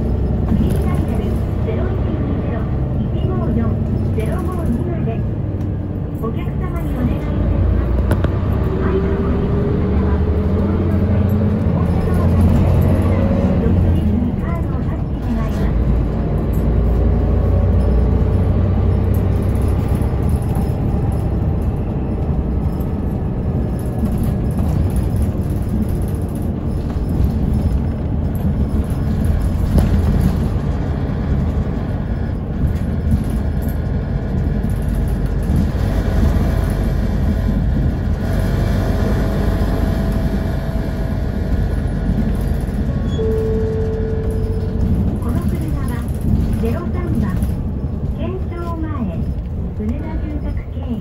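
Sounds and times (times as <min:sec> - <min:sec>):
bus engine and road rumble: 0:00.0 - 0:51.0.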